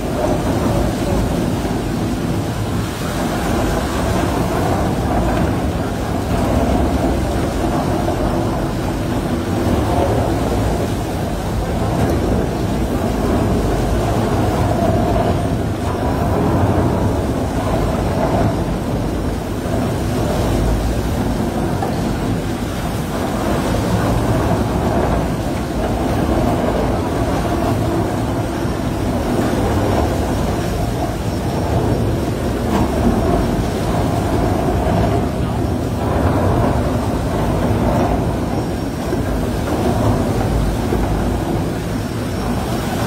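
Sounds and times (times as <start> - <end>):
heavy machinery rumbling: 0.0 - 43.0.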